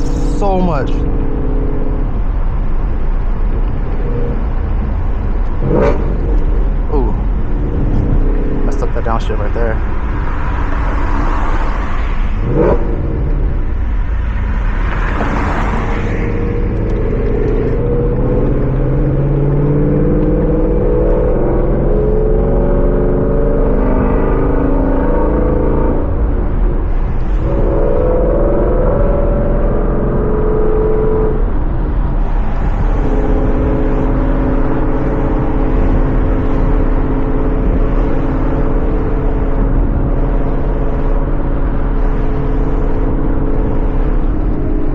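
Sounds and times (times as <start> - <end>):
car engine revving while driving: 0.0 - 44.9.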